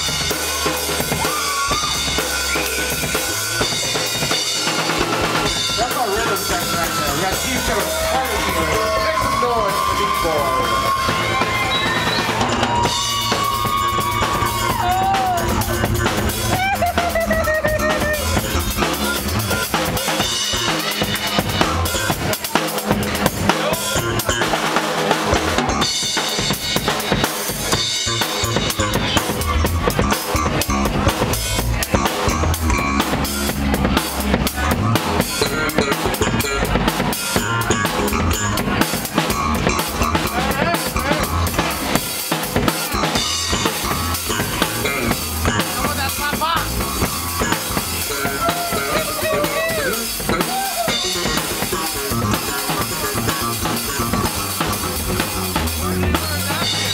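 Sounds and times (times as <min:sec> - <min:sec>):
drum kit beat: 0:00.0 - 0:56.9
live funk band: 0:00.0 - 0:56.9.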